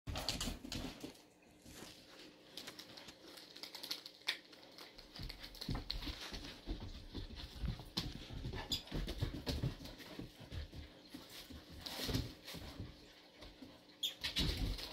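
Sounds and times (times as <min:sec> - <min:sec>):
dog toenails clicking on wood floor: 0:02.5 - 0:14.9.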